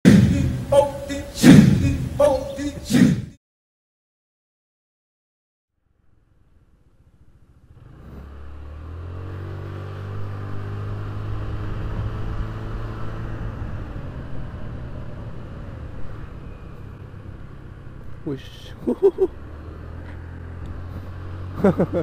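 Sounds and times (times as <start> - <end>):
road noise: 0.0 - 3.4, 5.8 - 22.0
wind: 0.0 - 3.4, 5.7 - 22.0.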